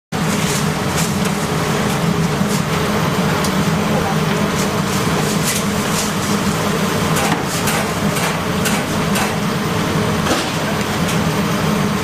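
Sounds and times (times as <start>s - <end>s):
ventilation machinery humming: 0.1s - 12.0s.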